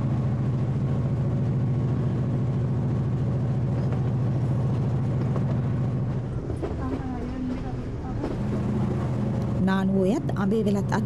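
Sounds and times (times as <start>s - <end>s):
diesel train engine droning: 0.0s - 11.0s.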